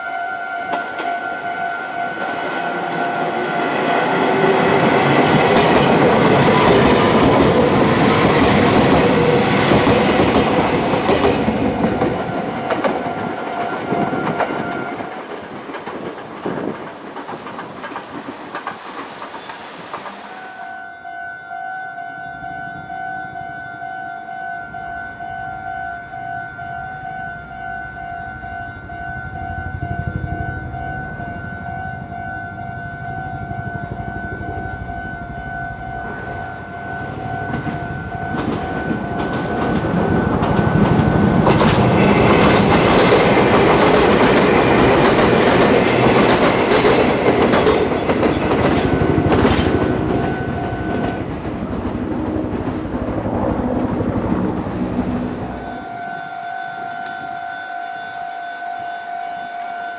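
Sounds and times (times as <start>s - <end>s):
level crossing warning bell: 0.0s - 15.0s, 20.2s - 51.4s, 55.5s - 59.9s
electric train passing: 0.0s - 59.9s.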